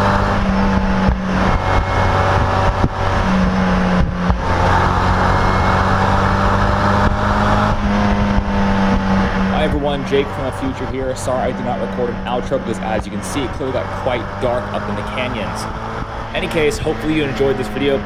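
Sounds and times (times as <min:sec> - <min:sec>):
car engine cruising: 0:00.0 - 0:18.0
wind and road noise: 0:00.0 - 0:18.0.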